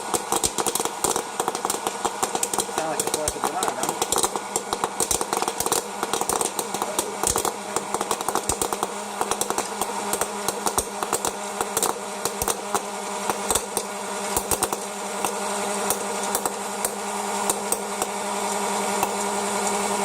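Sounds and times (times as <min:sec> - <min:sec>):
popcorn kernels popping: 0:00.0 - 0:20.0
popcorn popper fan humming: 0:00.0 - 0:20.0.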